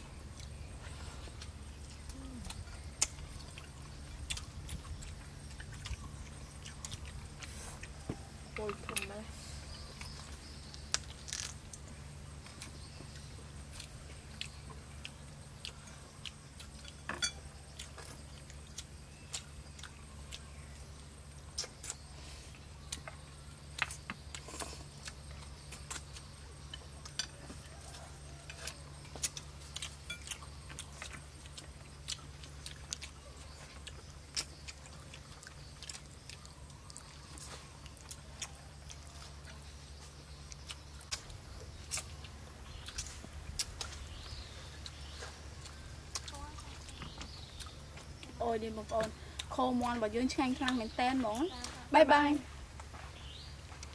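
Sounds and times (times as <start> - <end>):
steady low hum: 0.0 - 53.9
chewing: 0.1 - 51.8, 52.7 - 53.9.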